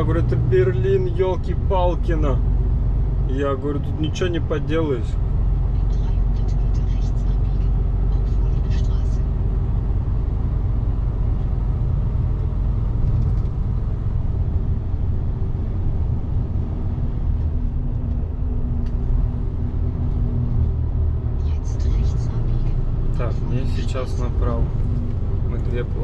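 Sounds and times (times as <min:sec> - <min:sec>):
truck diesel engine rumble: 0:00.0 - 0:26.0.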